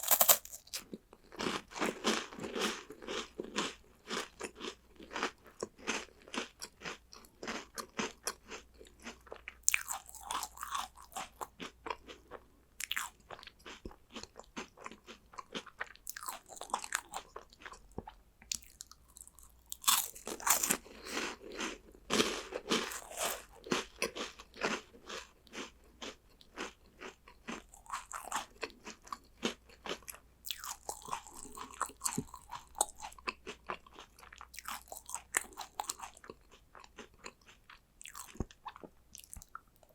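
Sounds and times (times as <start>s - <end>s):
crunching and chewing snacks: 0.0s - 39.9s.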